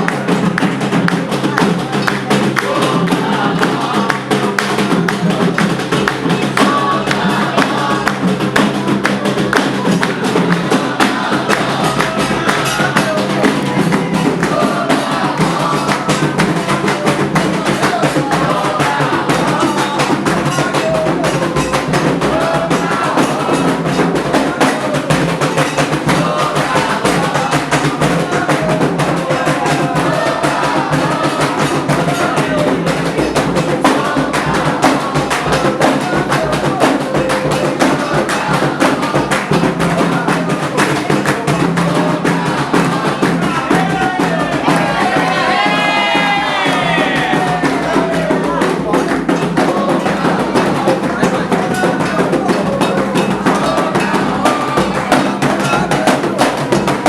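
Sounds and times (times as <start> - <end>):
group singing: 0.0 - 57.0
hand drums beating: 0.0 - 57.0.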